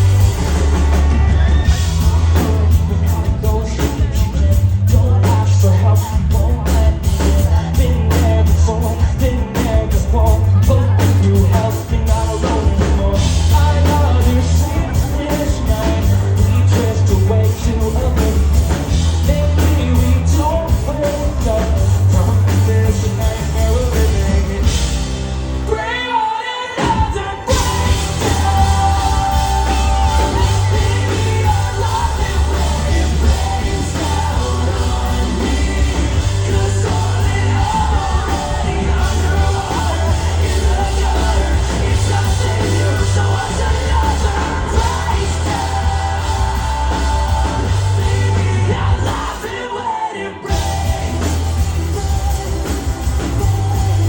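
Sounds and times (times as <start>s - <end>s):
loud drums and bass: 0.0s - 54.0s
person singing: 0.0s - 54.0s
rock band playing live: 0.0s - 54.0s.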